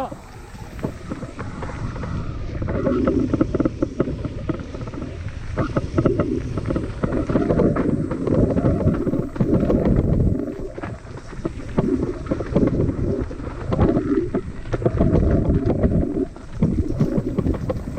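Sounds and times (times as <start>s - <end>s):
bike tyres rumbling over dirt: 0.0s - 17.9s
wind buffeting microphone: 0.0s - 17.9s.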